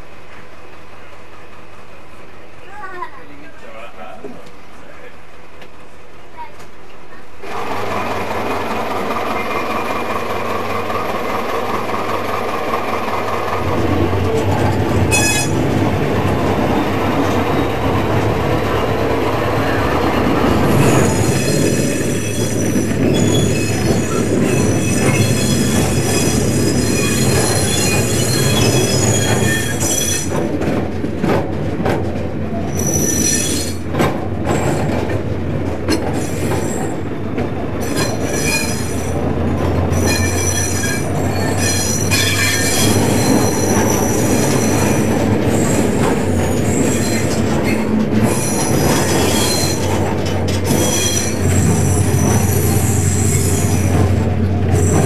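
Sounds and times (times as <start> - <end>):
train rumbling: 0.0 - 55.0
wheels squealing on rails: 7.4 - 30.6, 32.4 - 35.2, 35.8 - 37.1, 37.7 - 55.0.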